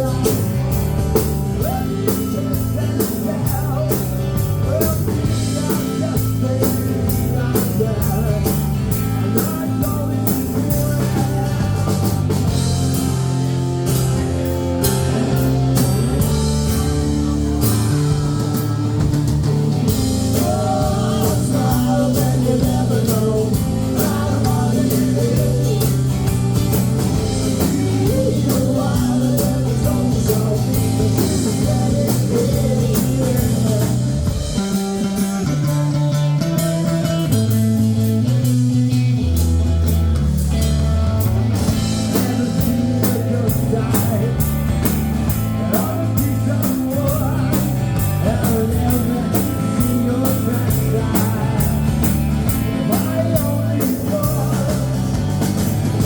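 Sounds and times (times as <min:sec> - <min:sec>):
electric guitar: 0:00.0 - 0:56.0
rock band playing live: 0:00.0 - 0:56.0.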